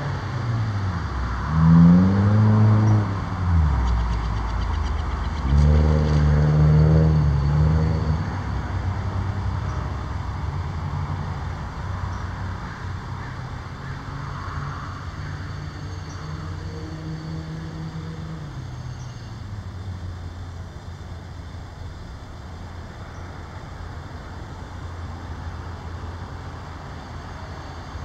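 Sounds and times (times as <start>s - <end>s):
vehicle engine passing by: 0.0s - 28.0s.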